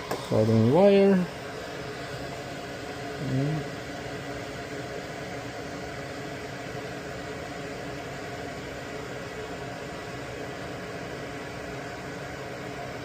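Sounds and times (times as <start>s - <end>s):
fan humming and hissing: 0.0s - 13.0s.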